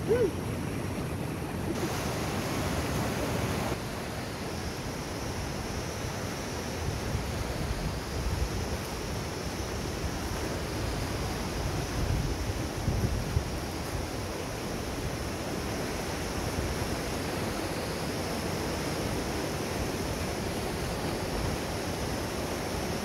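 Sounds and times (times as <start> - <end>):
stream rushing over rocks: 1.5 - 23.0.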